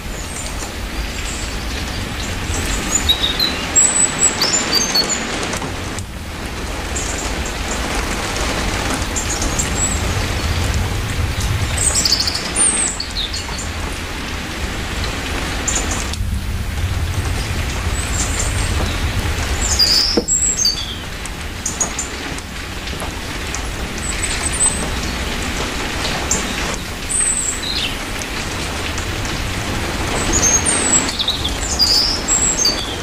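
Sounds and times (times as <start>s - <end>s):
low rumble: 0.0s - 4.3s, 5.5s - 24.2s, 27.6s - 32.3s
steady rain falling: 0.0s - 33.0s.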